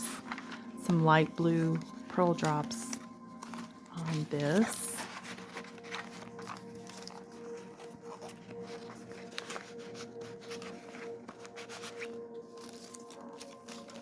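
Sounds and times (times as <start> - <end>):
paper pages rustling: 0.0 - 14.0
soft background music: 0.0 - 14.0.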